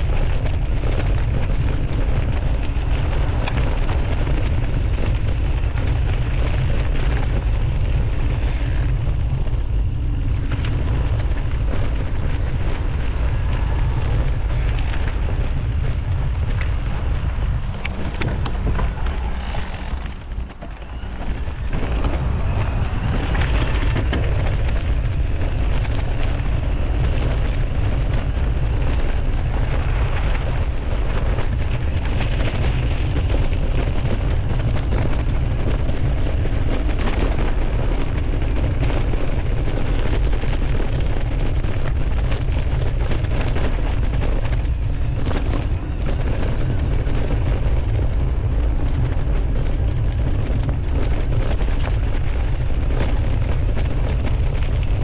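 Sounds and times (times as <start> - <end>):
bike rattling over rough ground: 0.0 - 55.0
tyre and trail noise: 0.0 - 55.0
wind buffeting microphone: 0.0 - 55.0.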